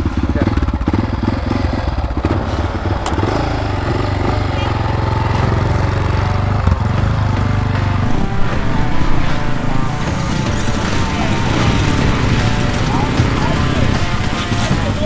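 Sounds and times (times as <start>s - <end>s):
dirt bike engines running: 0.0s - 15.0s.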